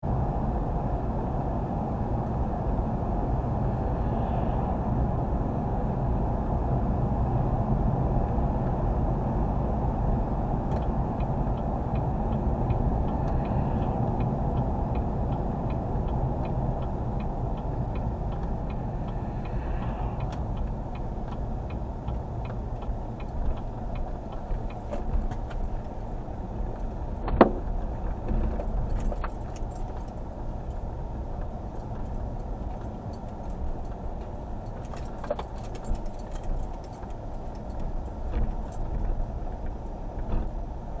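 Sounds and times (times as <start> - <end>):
car engine rumbling: 0.0 - 41.0.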